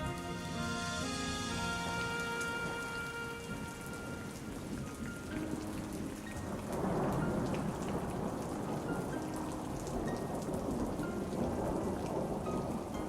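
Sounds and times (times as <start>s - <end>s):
thunder rolling: 0.0s - 12.9s
soft music: 0.0s - 13.0s
steady rain falling: 0.0s - 13.0s.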